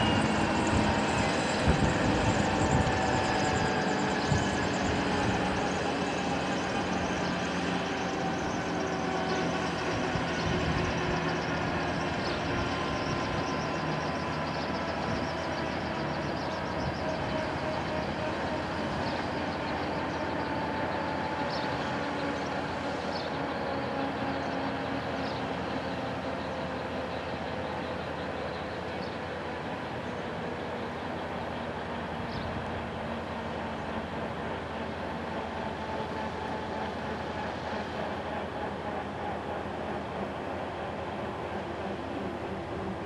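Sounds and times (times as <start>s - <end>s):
helicopter rotor hum: 0.0s - 43.0s
turbine whine winding down: 0.0s - 43.0s.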